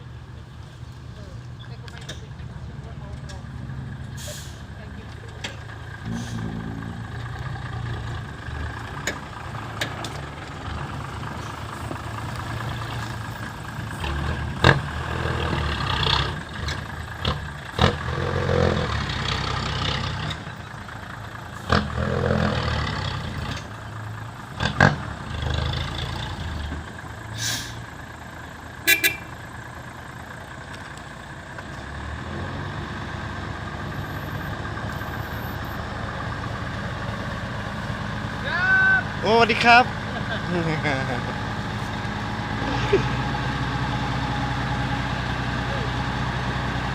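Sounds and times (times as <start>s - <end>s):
dump truck engine running: 0.0s - 46.9s.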